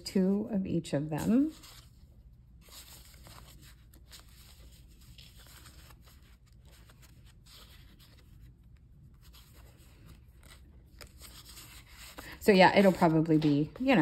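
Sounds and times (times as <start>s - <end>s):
cardstock rustling and scraping: 1.0s - 14.0s.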